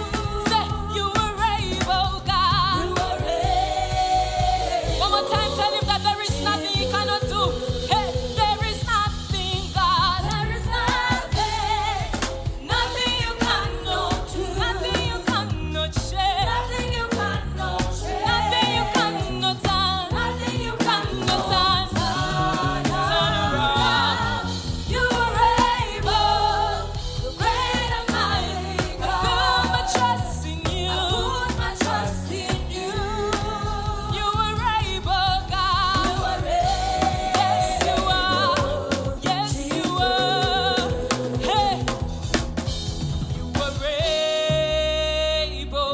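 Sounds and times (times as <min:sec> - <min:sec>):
voices singing with vibrato: 0:00.0 - 0:42.9
instrumental backing with bass line: 0:00.0 - 0:45.9.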